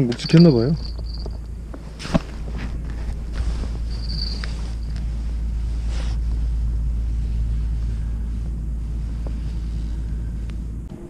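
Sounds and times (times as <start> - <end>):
faint rustle: 0.0 - 10.9.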